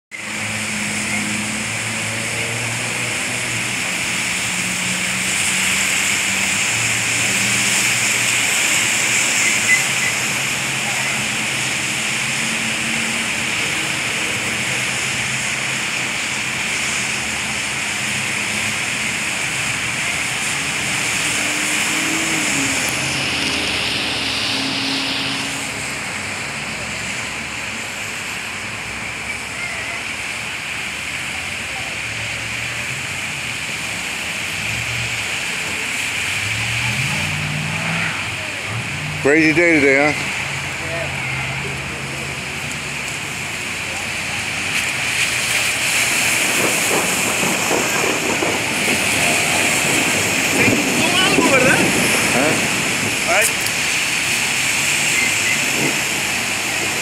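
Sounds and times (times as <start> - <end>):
street traffic: 0.1 - 57.0
tyres hissing on wet road: 0.1 - 57.0.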